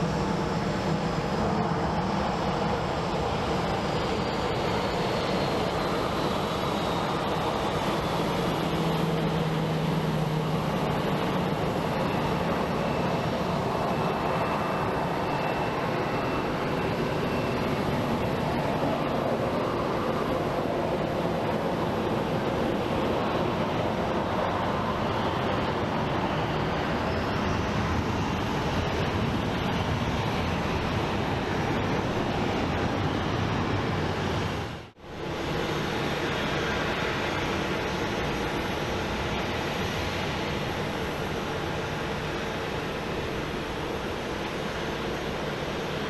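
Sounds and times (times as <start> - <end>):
jet airliner engines running: 0.0 - 46.0.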